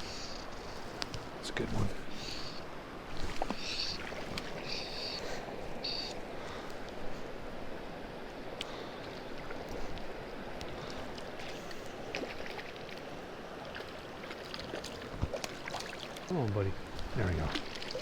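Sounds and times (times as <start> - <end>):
creek rushing and babbling: 0.0 - 18.0.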